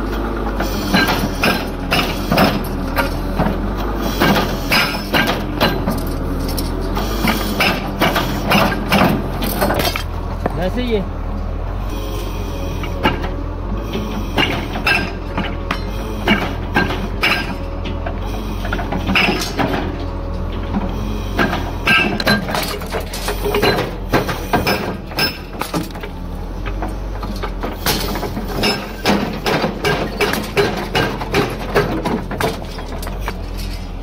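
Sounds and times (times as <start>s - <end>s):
demolition machine engine running: 0.0s - 34.0s
debris clanking and crushing: 0.7s - 10.6s, 14.4s - 34.0s.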